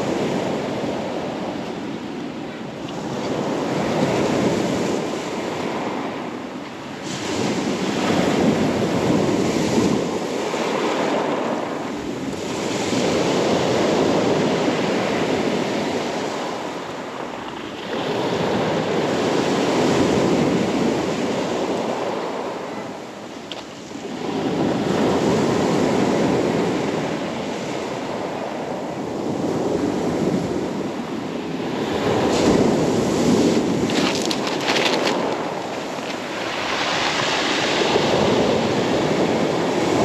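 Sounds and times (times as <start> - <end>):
waves breaking on pebble beach: 0.0 - 40.0.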